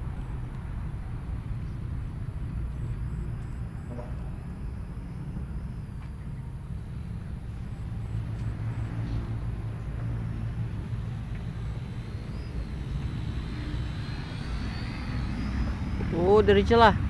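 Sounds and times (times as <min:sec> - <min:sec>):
steady low rumble: 0:00.0 - 0:17.0
model airplane motor whining: 0:03.1 - 0:17.0.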